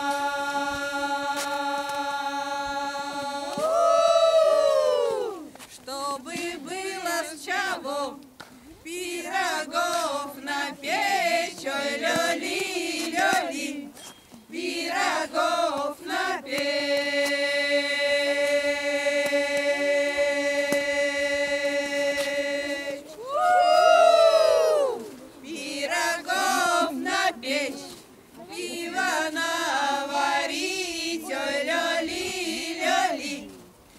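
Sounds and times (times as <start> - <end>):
women singing unaccompanied: 0.0 - 33.7.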